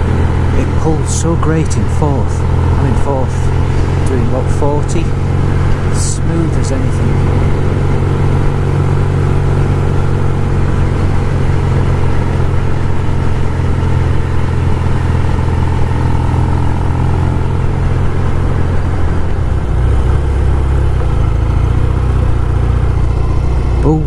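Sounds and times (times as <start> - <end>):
wind rush: 0.0 - 23.8
motorcycle engine running: 0.0 - 24.0.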